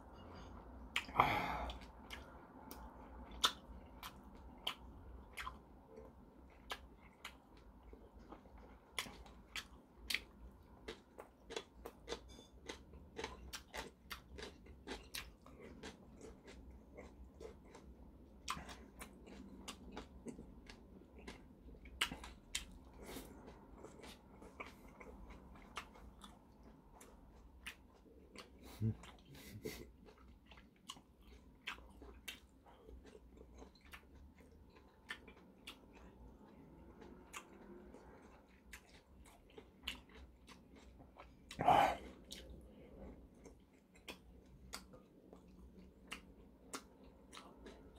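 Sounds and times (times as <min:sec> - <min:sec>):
chewing with wet crunches: 0:00.6 - 0:47.9.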